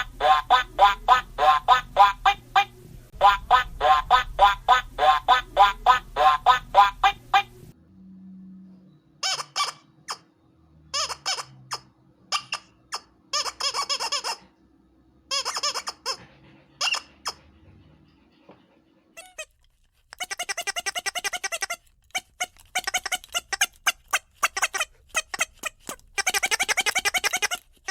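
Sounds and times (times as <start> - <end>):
rubber dog toy squeaking: 0.0 - 7.6, 9.2 - 10.3, 10.9 - 14.6, 15.3 - 17.4, 19.2 - 27.9.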